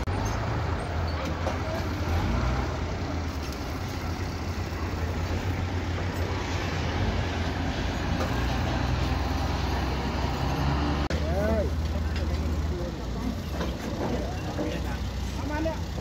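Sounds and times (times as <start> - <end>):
construction site noise: 0.0 - 16.0
diesel engine low hum: 0.0 - 16.0.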